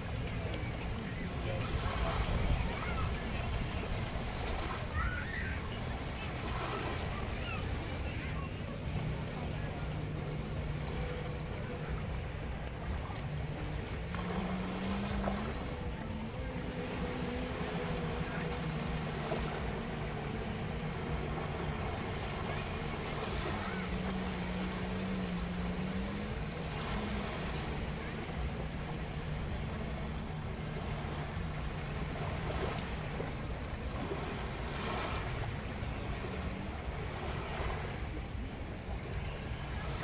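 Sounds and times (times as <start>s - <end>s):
low engine drone: 0.0s - 40.0s
small waves washing onto beach: 0.0s - 40.0s.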